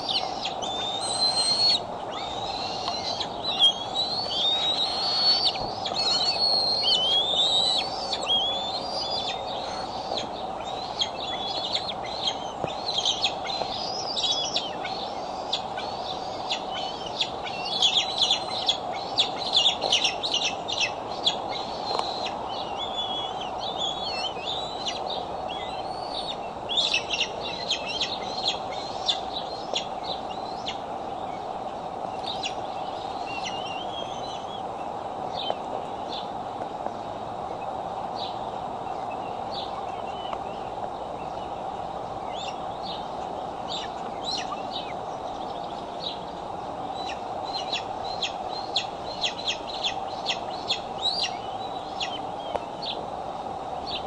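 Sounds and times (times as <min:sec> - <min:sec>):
eaglets peeping and chittering: 0:00.0 - 0:31.4, 0:32.2 - 0:34.6, 0:42.1 - 0:53.0.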